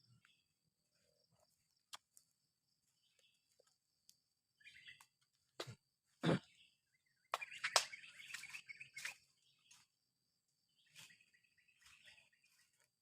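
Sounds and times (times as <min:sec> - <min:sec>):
faint chirps: 0:00.0 - 0:13.0.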